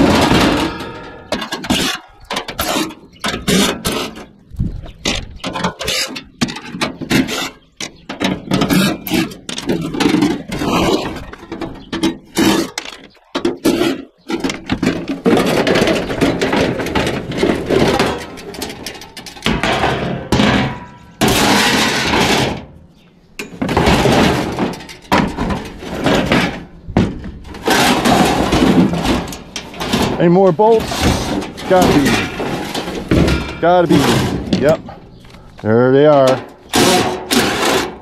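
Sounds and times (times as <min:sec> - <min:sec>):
sheet-metal panels rattling: 0:00.0 - 0:04.3, 0:05.0 - 0:22.8, 0:23.5 - 0:35.0, 0:36.0 - 0:38.0.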